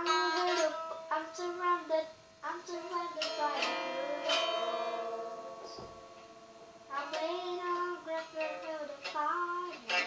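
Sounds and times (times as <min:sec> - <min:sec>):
guitar chord ringing: 0:00.0 - 0:01.8, 0:02.7 - 0:10.0.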